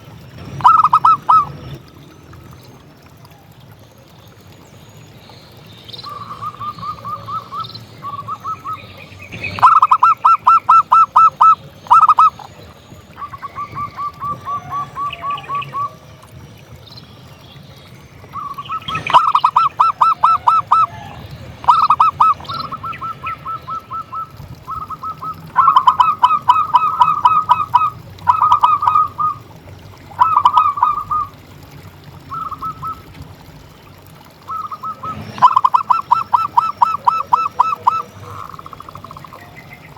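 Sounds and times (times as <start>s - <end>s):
doves cooing in rapid bouts: 0.4s - 1.8s, 6.1s - 16.2s, 18.3s - 33.5s, 34.2s - 39.9s.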